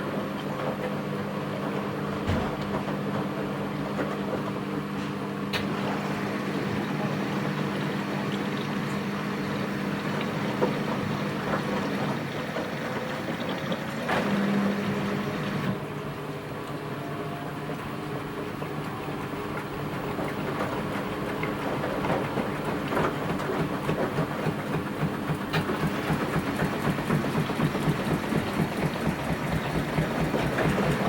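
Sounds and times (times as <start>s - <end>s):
washing machine motor hum: 0.0s - 31.0s
water sloshing in drum: 5.7s - 31.0s.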